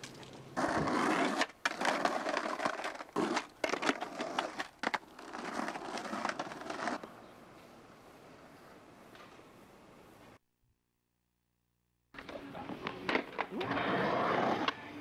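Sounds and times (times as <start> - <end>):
skateboard wheels rolling on pavement: 0.0 - 10.4, 12.2 - 15.0.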